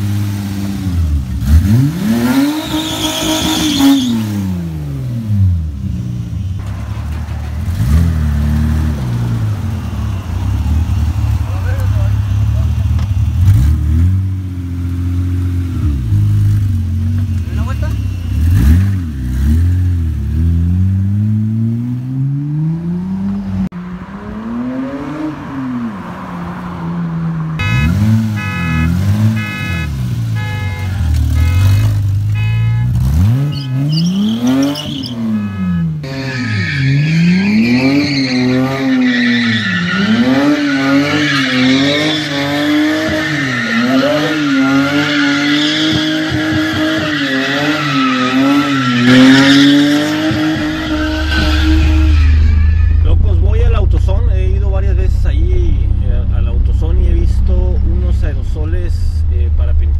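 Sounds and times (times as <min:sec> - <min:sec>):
car engine revving: 0:00.0 - 0:59.9
tires squealing: 0:01.6 - 0:04.8, 0:06.3 - 0:14.2, 0:15.7 - 0:20.8, 0:22.6 - 0:59.9.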